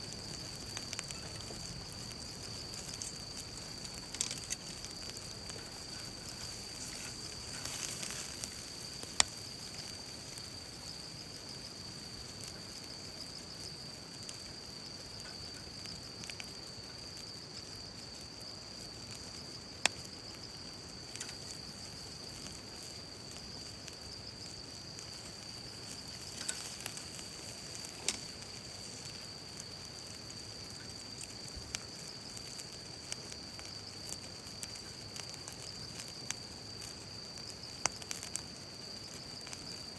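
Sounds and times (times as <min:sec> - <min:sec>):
fire crackling pops: 0:00.0 - 0:39.9
fire hissing: 0:00.0 - 0:39.9.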